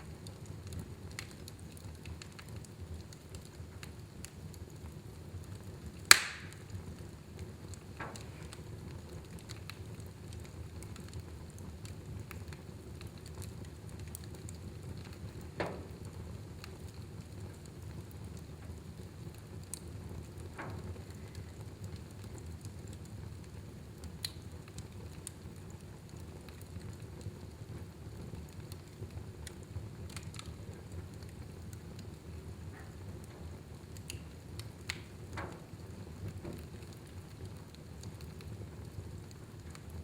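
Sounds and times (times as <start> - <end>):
fire burning in a fireplace: 0.0 - 40.0.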